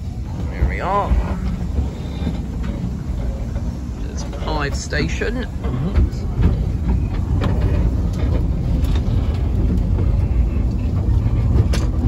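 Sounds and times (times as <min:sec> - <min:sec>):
railway carriage rumbling on track: 0:00.0 - 0:12.0.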